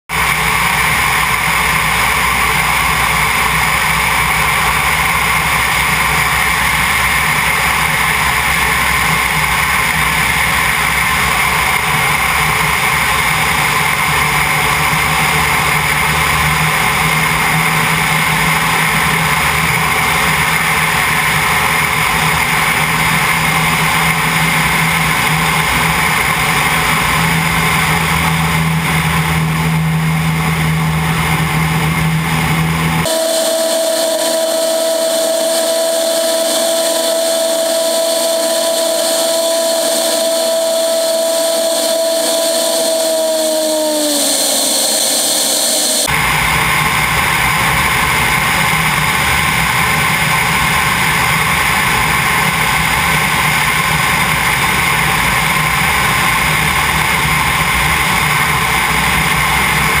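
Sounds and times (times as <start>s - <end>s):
airplane piston engine and propeller: 0.0s - 60.0s
airflow rushing: 0.1s - 60.0s.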